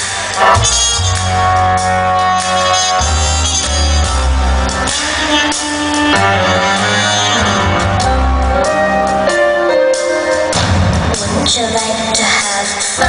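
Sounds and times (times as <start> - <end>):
live pop music over loudspeakers: 0.0 - 13.0.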